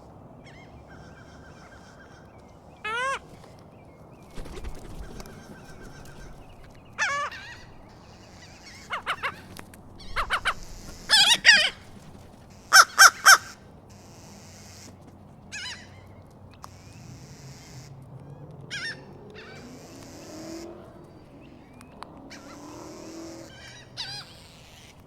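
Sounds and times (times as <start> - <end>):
birds calling harshly: 0.4 - 25.0.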